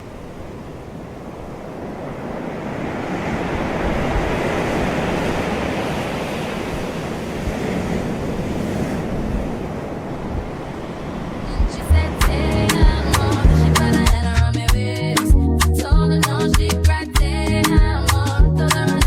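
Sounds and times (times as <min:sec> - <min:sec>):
ocean surf rushing: 0:00.0 - 0:19.0.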